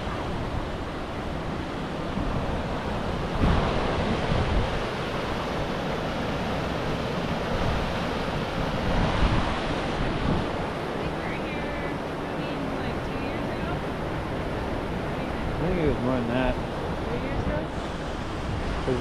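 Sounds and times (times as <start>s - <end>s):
stream water flowing: 0.0s - 19.0s
wind buffeting microphone: 0.0s - 19.0s.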